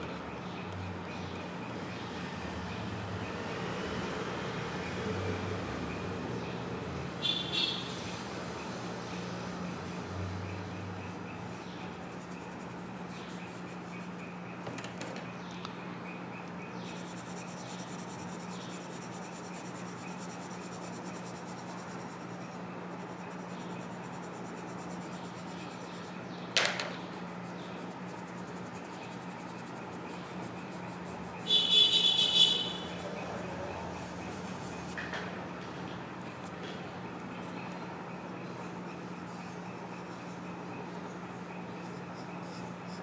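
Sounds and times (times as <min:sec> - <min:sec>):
background hum and hiss: 0:00.0 - 0:43.0.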